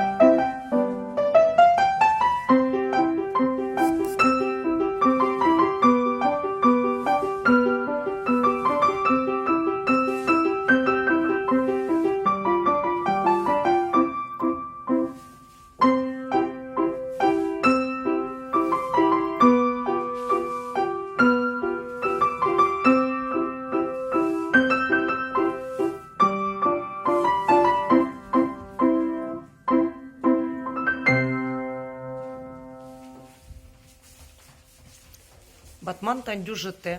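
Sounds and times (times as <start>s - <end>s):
piano playing steady chords: 0.0s - 33.4s.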